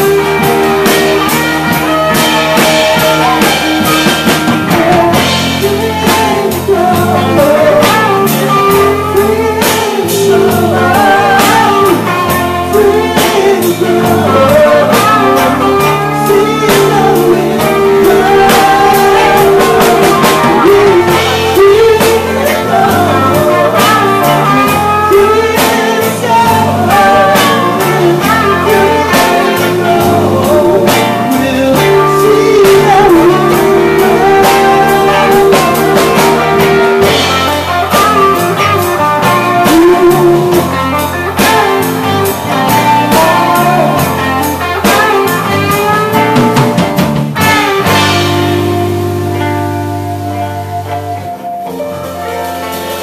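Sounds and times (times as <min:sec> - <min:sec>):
woman singing: 0:00.0 - 0:46.5
drum kit: 0:00.0 - 0:53.0
electric guitars: 0:00.0 - 0:53.0.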